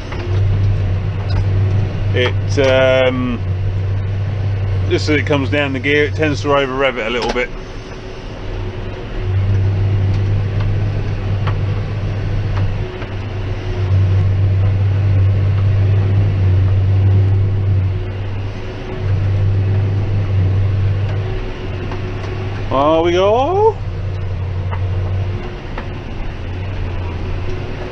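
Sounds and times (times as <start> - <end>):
tractor running under load: 0.0 - 27.9.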